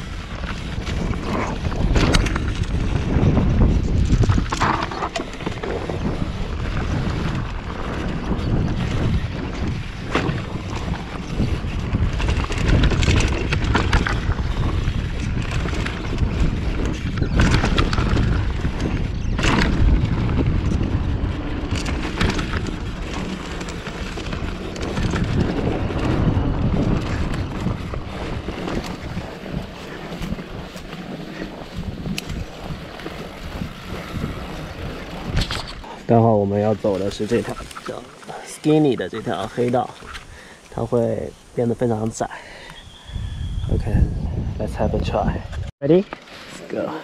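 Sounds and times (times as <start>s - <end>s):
bike knocks and rattles: 0.0s - 37.9s
wind buffeting microphone: 0.0s - 46.1s.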